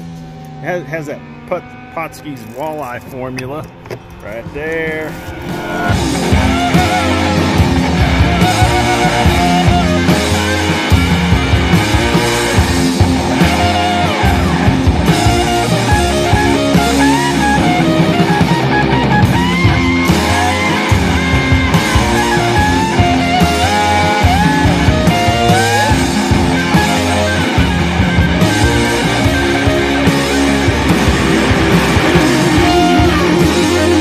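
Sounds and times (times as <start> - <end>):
loud rock music: 0.0 - 34.0
melodic lead guitar: 0.0 - 34.0.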